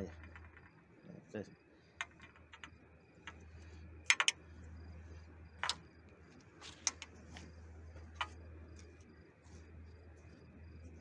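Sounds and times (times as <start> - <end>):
insect chirping: 0.0 - 11.0
steady low hum: 0.0 - 11.0.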